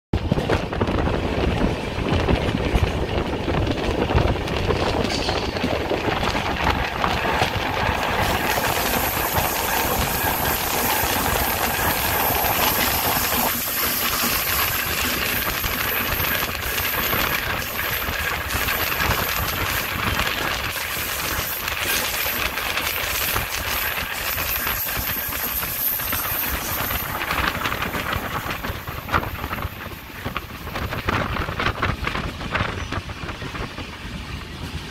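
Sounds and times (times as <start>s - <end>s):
train wheels clattering on rails: 0.1s - 34.9s
rushing air: 0.2s - 34.9s.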